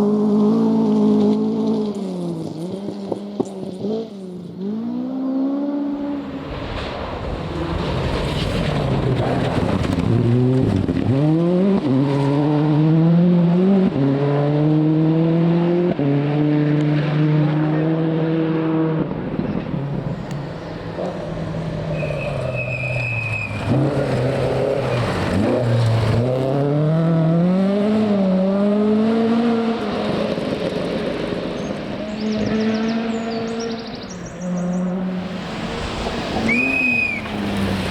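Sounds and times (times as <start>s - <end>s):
rally car engine accelerating: 0.0s - 37.9s.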